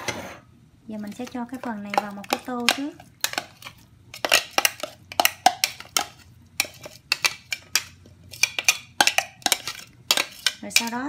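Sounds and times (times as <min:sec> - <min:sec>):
utensil clinking against bowl: 0:01.0 - 0:11.0.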